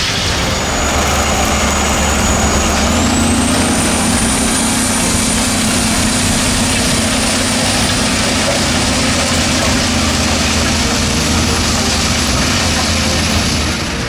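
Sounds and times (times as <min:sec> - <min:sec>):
thin high whine: 0:00.0 - 0:14.0
tractor diesel engine running: 0:00.0 - 0:14.0.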